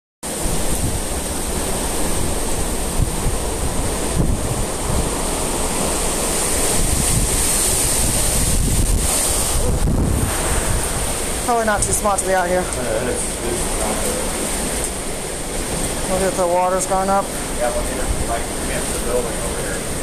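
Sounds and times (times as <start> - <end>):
driving rain: 0.2 - 20.0
hurricane wind: 0.2 - 20.0
wind buffeting microphone: 0.2 - 20.0.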